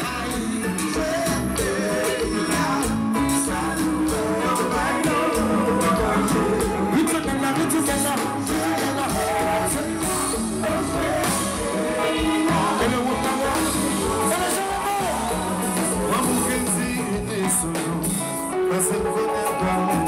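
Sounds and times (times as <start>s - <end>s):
band playing with lead vocal: 0.0s - 20.0s
bass and percussion groove: 0.0s - 20.0s.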